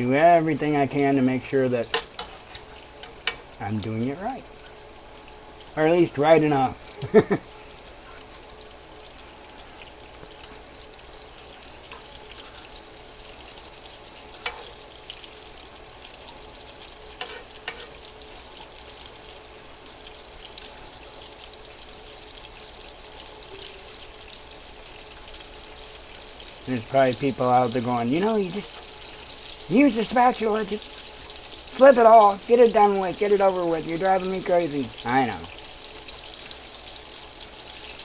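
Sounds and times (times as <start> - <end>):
chicken frying in oil: 0.0 - 38.0.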